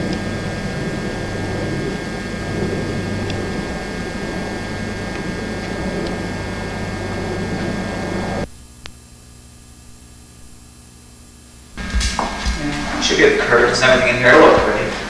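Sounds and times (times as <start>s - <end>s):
faint hiss and hum: 0.0s - 15.0s
steady rumbling with hum: 0.0s - 15.0s.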